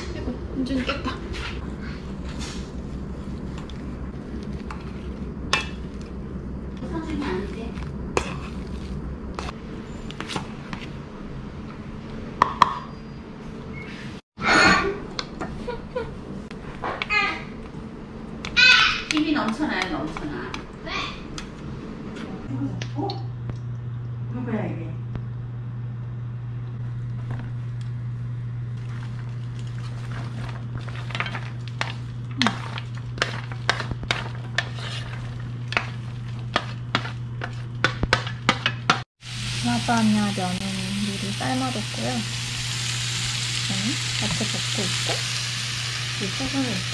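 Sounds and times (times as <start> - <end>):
steady low hum: 0.0 - 12.5, 14.5 - 46.9.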